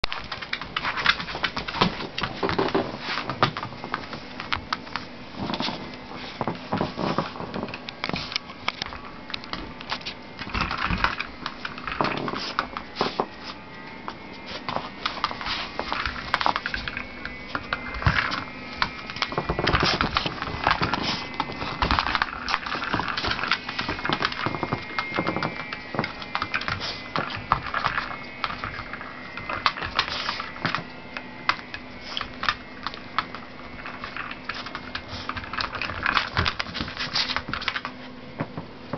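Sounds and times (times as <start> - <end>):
dog claws clicking on wooden floor: 0.0 - 38.6.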